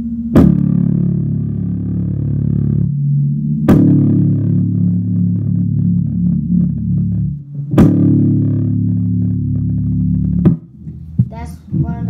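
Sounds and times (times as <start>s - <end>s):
electric bass guitar notes: 0.0s - 12.0s.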